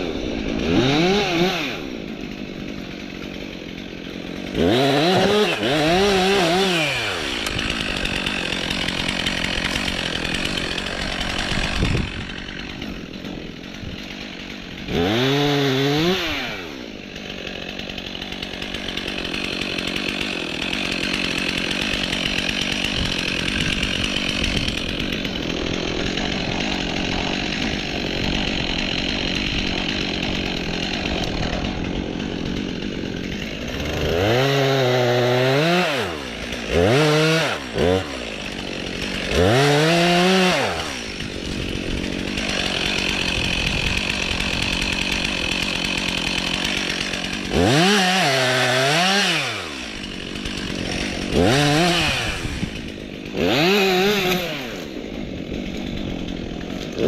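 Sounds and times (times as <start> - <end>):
chainsaw cutting wood: 0.0 - 57.0
chainsaw revving: 0.0 - 57.0.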